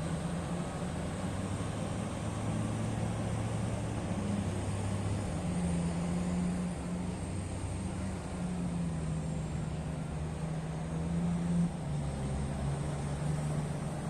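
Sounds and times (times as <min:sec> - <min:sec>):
diesel machine droning: 0:00.0 - 0:14.0.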